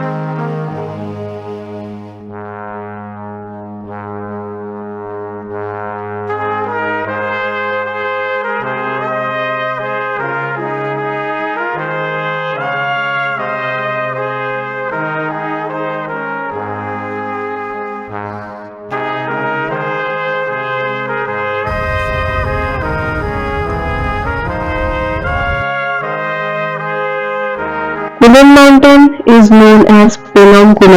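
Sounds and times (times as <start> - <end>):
music of long held chords: 0.0 - 4.0, 6.3 - 28.2.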